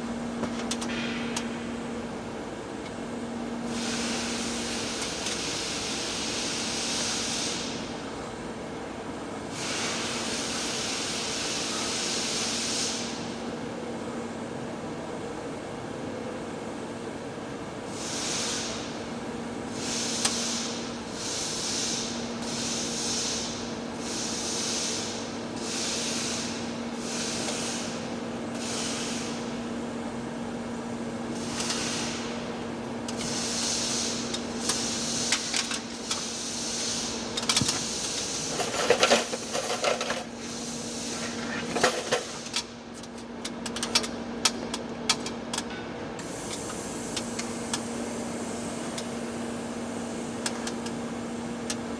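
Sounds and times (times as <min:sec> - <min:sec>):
welding arc hum and hiss: 0:00.0 - 0:51.9.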